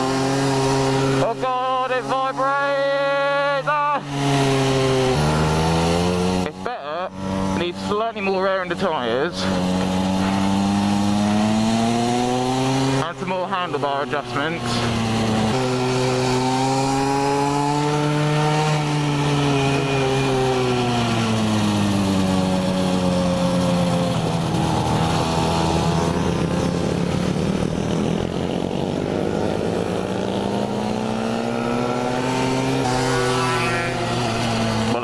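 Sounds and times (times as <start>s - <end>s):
small motorbike engine running: 0.0s - 35.0s.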